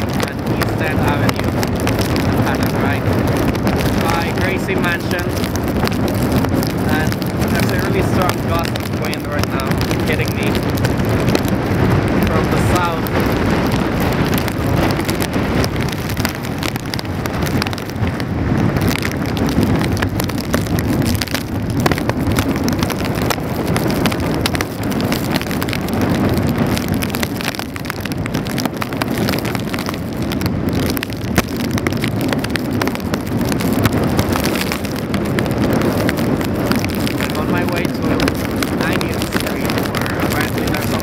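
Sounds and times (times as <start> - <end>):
rain on wet pavement: 0.0 - 41.0
wind buffeting microphone: 0.0 - 41.0.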